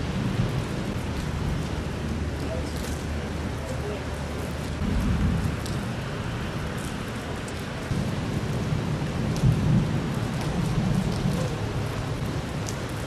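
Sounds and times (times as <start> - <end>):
thunder rumbling: 0.0 - 3.6, 4.6 - 13.0
steady rain falling: 0.0 - 13.0.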